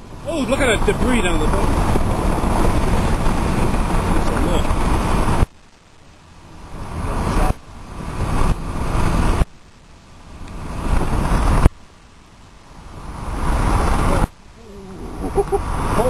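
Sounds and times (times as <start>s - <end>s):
car wind and road noise: 0.0s - 16.0s.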